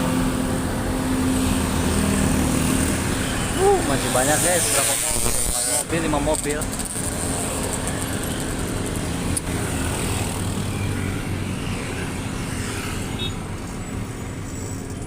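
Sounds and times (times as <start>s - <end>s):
vehicle engines and tyre noise: 0.0s - 15.0s.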